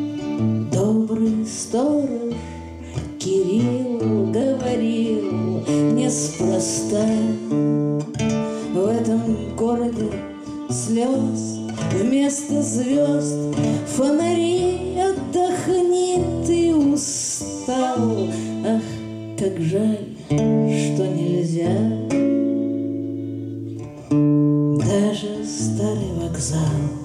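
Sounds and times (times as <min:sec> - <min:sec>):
violin sliding melody: 0:00.0 - 0:24.1
strummed acoustic guitar: 0:00.0 - 0:27.0.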